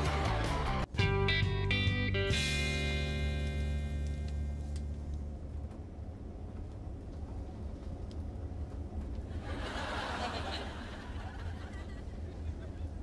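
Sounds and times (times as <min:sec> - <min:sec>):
airliner cabin drone: 0:02.2 - 0:13.0.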